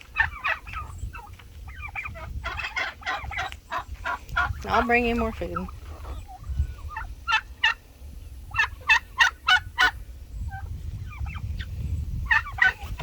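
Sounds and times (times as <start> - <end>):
turkeys calling: 0.0 - 13.0.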